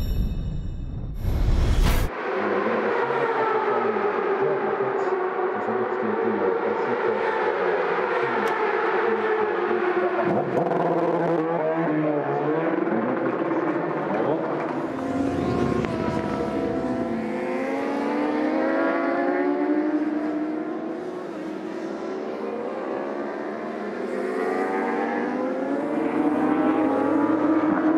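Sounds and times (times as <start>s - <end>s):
racing motorcycle engines revving: 2.3s - 27.9s.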